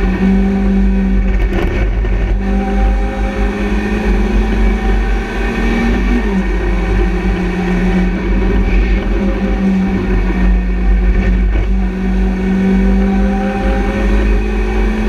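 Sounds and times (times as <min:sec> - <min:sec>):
race car engine under load: 0:00.0 - 0:15.0.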